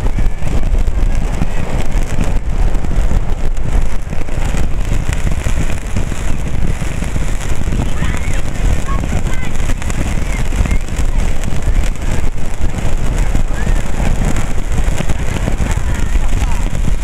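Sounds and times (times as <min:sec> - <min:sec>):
fireworks crackling and hissing: 0:00.0 - 0:17.0
low rumble: 0:00.0 - 0:17.0.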